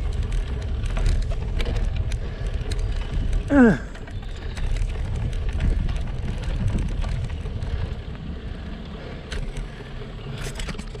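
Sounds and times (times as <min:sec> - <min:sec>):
bike tyres rumbling on pavement: 0:00.0 - 0:11.0
wind noise on microphone: 0:00.0 - 0:11.0.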